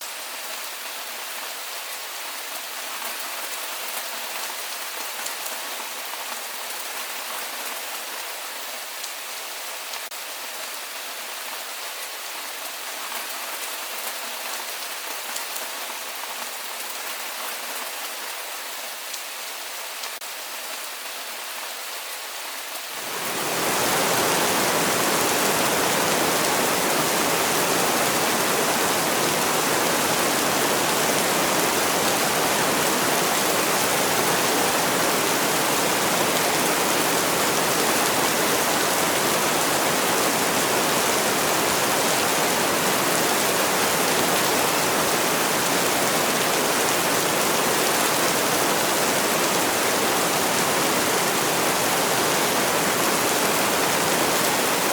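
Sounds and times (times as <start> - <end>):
heavy downpour: 0.0 - 54.9
steady rainfall: 0.0 - 54.9.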